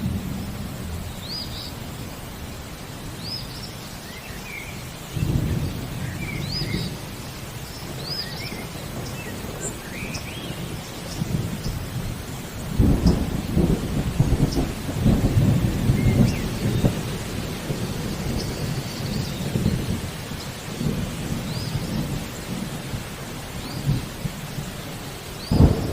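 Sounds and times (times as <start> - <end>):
thunder rumbling: 0.0 - 3.4, 4.6 - 25.9
steady rain: 0.0 - 25.9.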